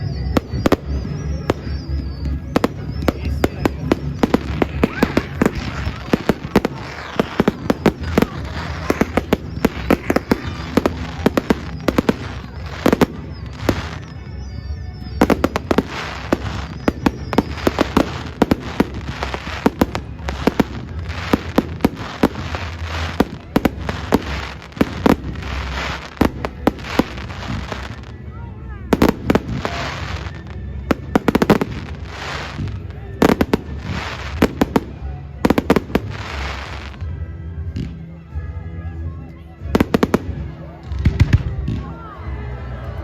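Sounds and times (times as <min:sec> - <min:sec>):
firework whistle: 0:00.0 - 0:28.1, 0:28.9 - 0:36.8
fireworks bangs and crackles: 0:00.0 - 0:38.4, 0:39.4 - 0:42.0.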